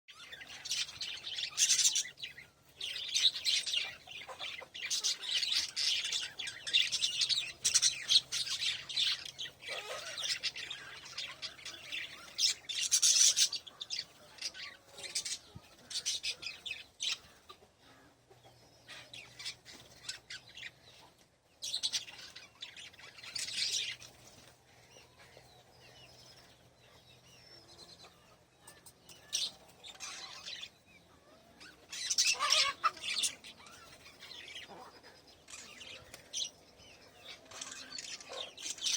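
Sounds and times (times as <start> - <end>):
parrots chirping and chattering: 0.1 - 38.9.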